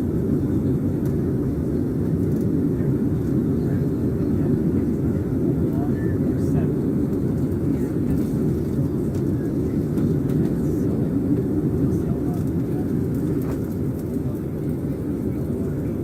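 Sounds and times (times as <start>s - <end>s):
muffled jet engine rumble in cabin: 0.0s - 16.0s.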